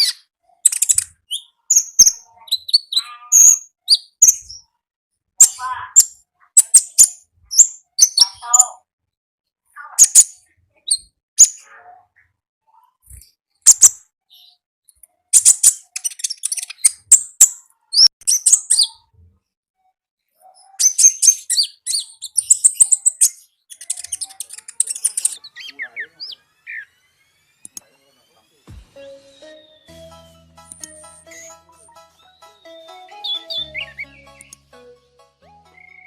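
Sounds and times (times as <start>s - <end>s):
songbird chirping and trilling: 0.0s - 4.8s, 5.4s - 8.9s, 9.7s - 19.2s, 20.3s - 36.0s.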